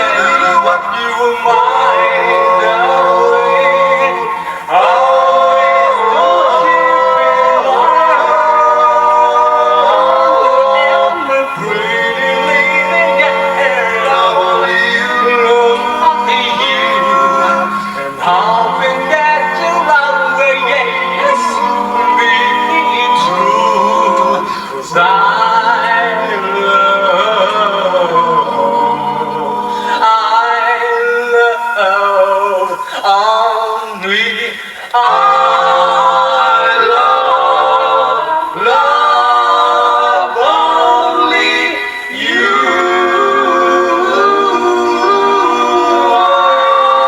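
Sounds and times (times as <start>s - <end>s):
a cappella vocal group singing: 0.0s - 47.0s.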